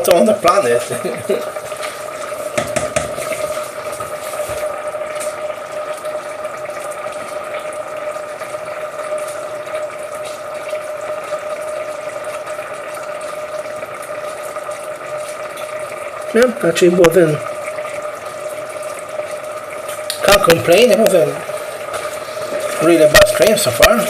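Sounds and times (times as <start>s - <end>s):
risotto simmering hiss: 0.0s - 24.0s.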